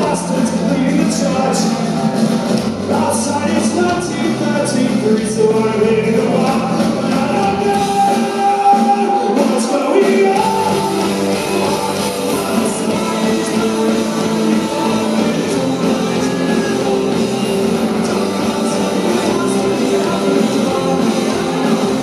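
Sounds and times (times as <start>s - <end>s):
bass guitar: 0.0s - 22.0s
drums: 0.0s - 22.0s
electric guitars: 0.0s - 22.0s
keyboard: 0.0s - 22.0s
person singing lead vocal: 0.0s - 22.0s.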